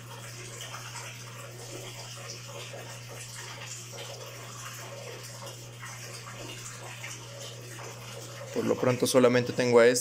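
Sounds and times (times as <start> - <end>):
aquarium filter trickling water: 0.0 - 10.0.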